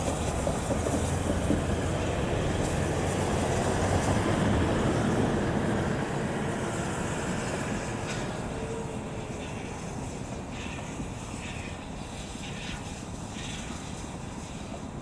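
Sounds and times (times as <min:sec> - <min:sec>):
locomotive wheels rumbling on rails: 0:00.0 - 0:15.0.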